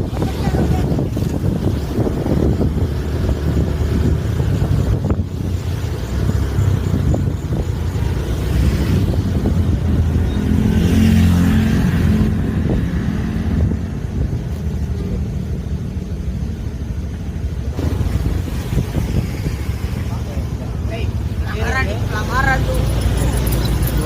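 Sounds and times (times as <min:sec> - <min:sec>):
bus engine passing by: 0:00.0 - 0:24.0.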